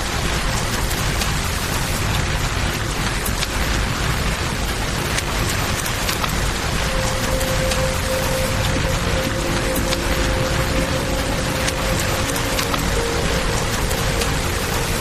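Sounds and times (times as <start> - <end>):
steady rain falling: 0.0 - 15.0
river flowing: 0.2 - 15.0.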